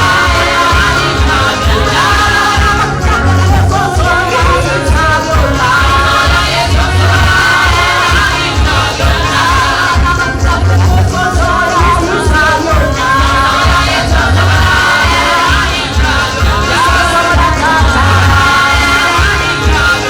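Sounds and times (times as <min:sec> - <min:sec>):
band with heavy bass beat: 0:00.0 - 0:20.0
voices singing together: 0:00.0 - 0:20.0.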